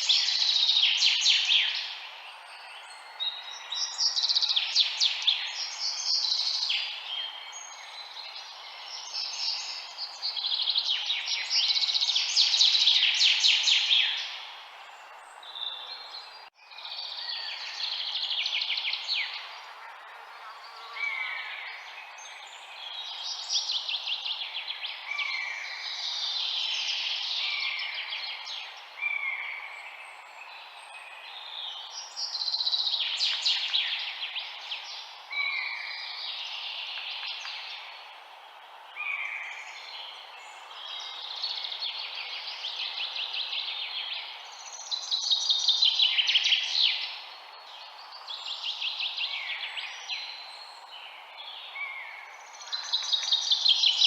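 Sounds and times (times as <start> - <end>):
songbirds chirping and singing: 0.0 - 54.0
steady background hiss: 0.0 - 54.0.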